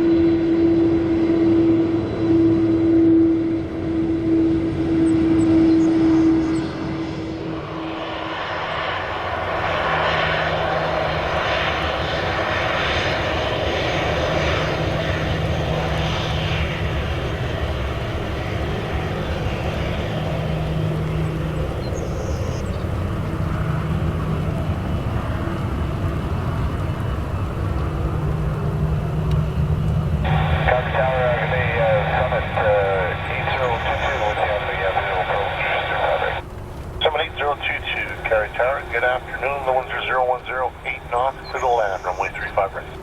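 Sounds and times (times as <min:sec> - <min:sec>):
jet engine hum: 0:00.0 - 0:43.0
jet engines roaring: 0:00.0 - 0:43.0.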